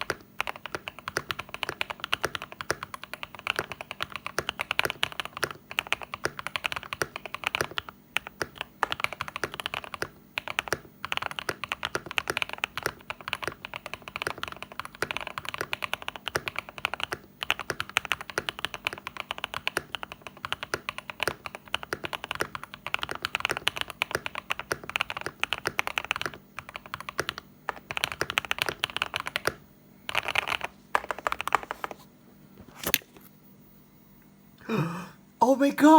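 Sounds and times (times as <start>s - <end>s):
mechanical keyboard typing: 0.0s - 32.0s.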